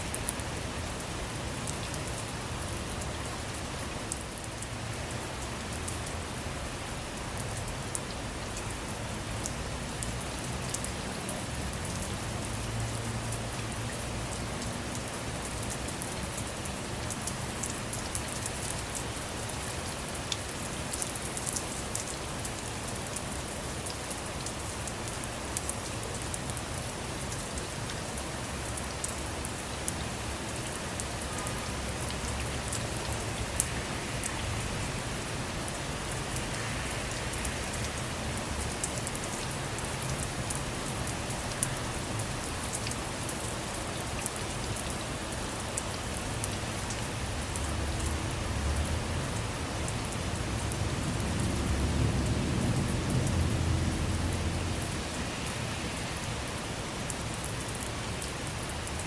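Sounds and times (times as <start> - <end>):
rain falling on a car: 0.0 - 59.0.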